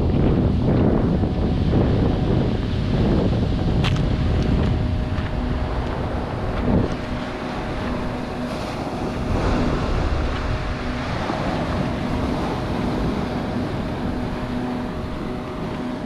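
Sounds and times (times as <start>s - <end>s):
faint hum: 0.0s - 16.0s
surf on shore: 0.0s - 16.0s
wind on microphone: 0.0s - 16.0s.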